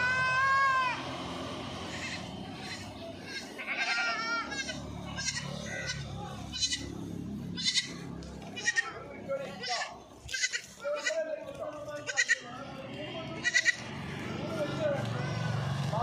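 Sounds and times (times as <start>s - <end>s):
goat bleating: 0.0s - 15.9s.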